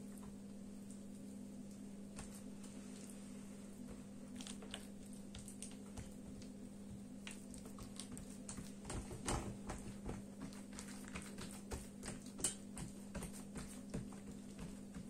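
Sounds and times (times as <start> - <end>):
hands patting dough: 0.0 - 15.0.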